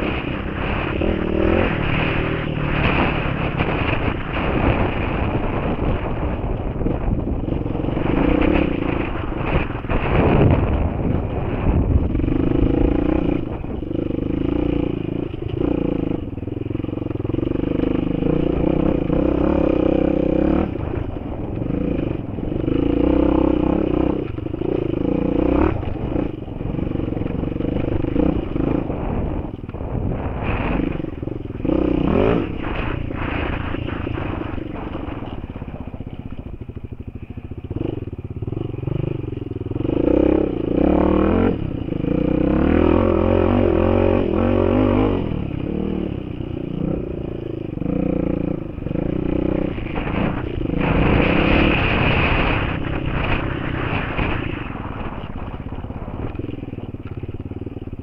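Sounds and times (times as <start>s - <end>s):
bike rattling over rough ground: 0.0s - 58.0s
motorcycle engine revving: 0.0s - 58.0s
wind noise: 0.0s - 58.0s.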